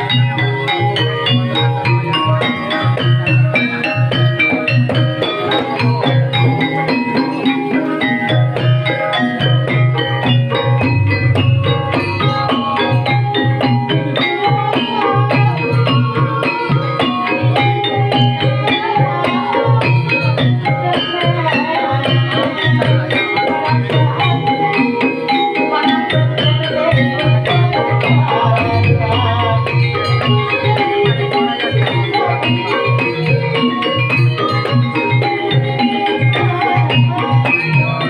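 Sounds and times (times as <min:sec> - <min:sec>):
gamelan music: 0:00.0 - 0:38.0
hand drum pattern: 0:00.0 - 0:38.0
struck tuned percussion notes: 0:00.0 - 0:38.0.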